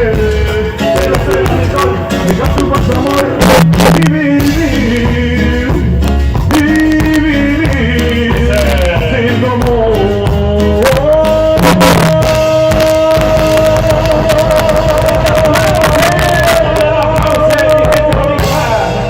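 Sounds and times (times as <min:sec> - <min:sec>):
live band music: 0:00.0 - 0:19.0
person singing: 0:00.0 - 0:19.0.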